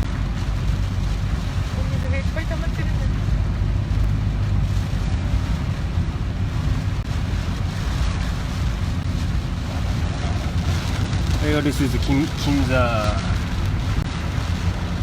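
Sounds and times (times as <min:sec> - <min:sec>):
car interior rumble and hiss: 0:00.0 - 0:15.0
tyres running through water: 0:00.0 - 0:15.0.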